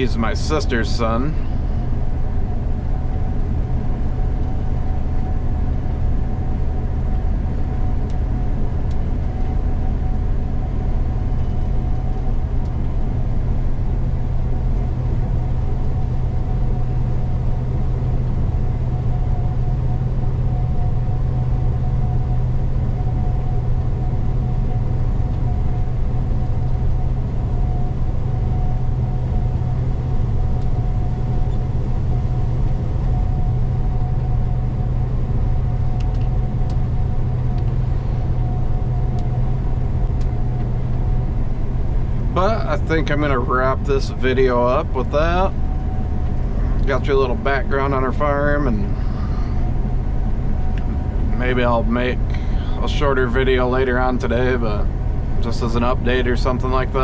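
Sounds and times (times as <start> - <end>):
combine harvester drone: 0.0 - 57.0
thin steady whine: 0.0 - 57.0.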